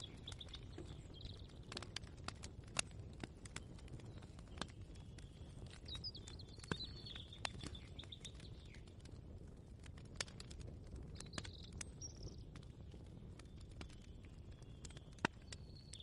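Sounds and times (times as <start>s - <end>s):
birds chirping: 0.0s - 2.4s, 3.4s - 9.1s, 11.1s - 16.0s.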